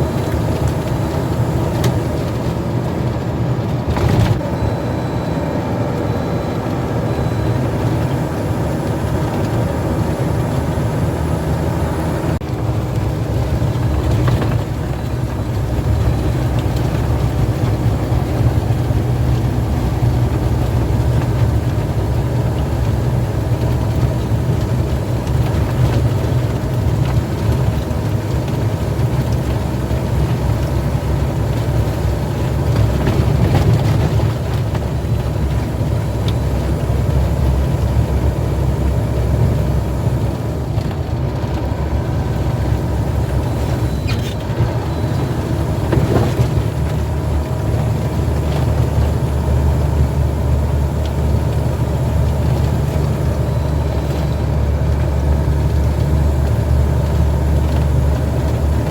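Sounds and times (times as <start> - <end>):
road noise: 0.0 - 58.9
truck engine drone: 0.0 - 58.9.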